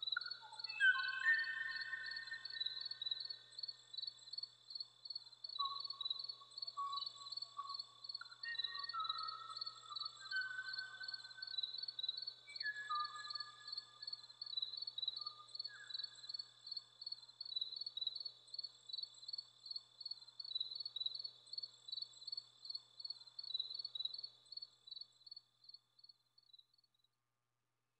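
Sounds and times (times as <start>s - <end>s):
insect chirping: 0.0s - 27.1s.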